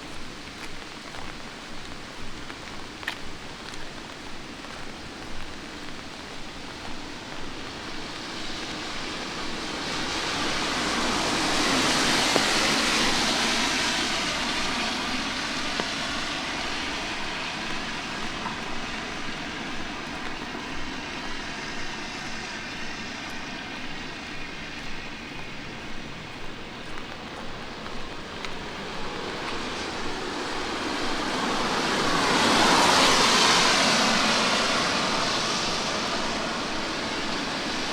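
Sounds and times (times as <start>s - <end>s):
footsteps on wet pavement: 0.0s - 37.9s
light rain: 0.0s - 37.9s
vehicle passing on wet street: 0.0s - 37.9s.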